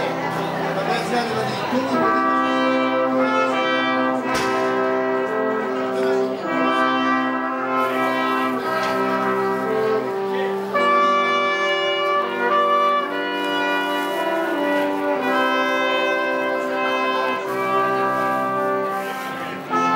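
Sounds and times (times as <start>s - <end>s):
brass ensemble playing slow chords: 0.0s - 19.9s.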